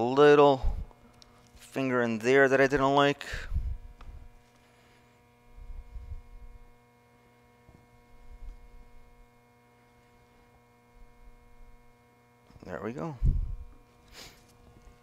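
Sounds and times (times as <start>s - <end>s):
faint mains hum: 0.0s - 15.0s.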